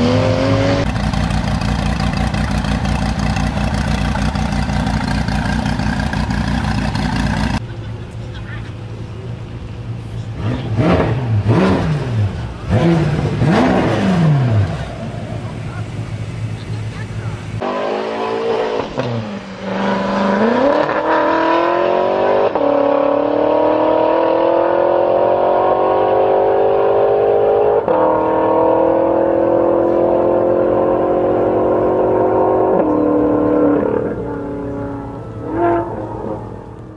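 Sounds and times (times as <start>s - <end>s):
car engine accelerating hard: 0.0s - 7.6s, 10.2s - 36.9s.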